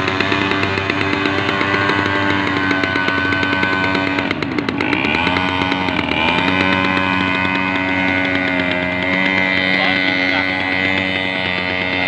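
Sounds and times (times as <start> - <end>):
model boat engine running: 0.0 - 12.0.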